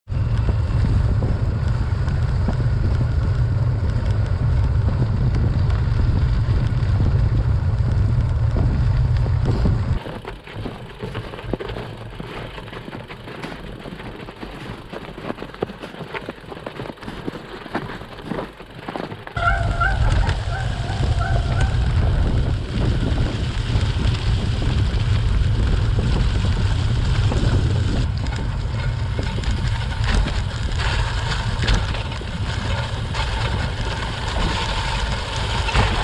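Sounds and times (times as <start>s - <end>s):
tyres crunching over snow: 0.1s - 36.0s
wind rumble on microphone: 0.1s - 36.0s.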